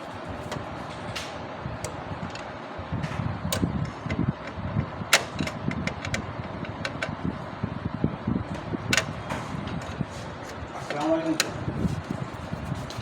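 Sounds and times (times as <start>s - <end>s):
laser printer low rumble: 0.0s - 10.8s.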